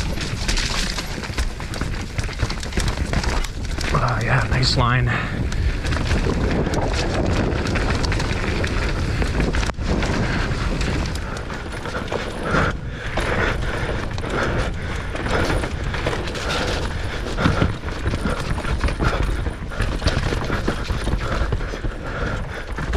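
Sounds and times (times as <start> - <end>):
bike knocking and rattling: 0.0 - 22.9
wind and tyre noise: 0.0 - 22.9.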